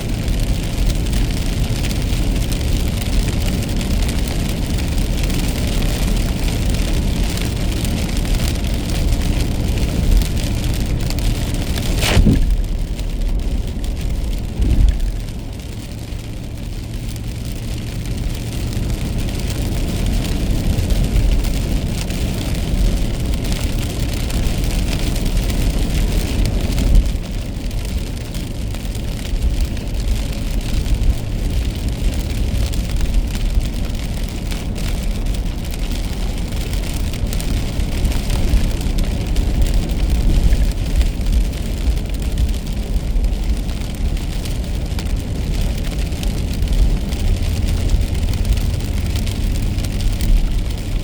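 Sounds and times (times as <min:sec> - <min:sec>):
rain striking car: 0:00.0 - 0:51.0
tyre noise on wet road: 0:00.0 - 0:51.0.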